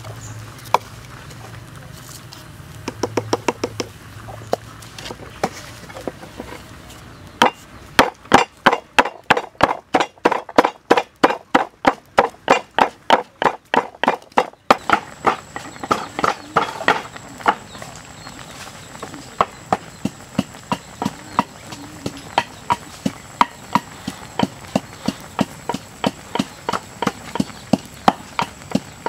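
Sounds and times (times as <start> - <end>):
pestle pounding in wooden mortar: 2.8 - 6.6, 7.4 - 17.7, 19.0 - 29.0.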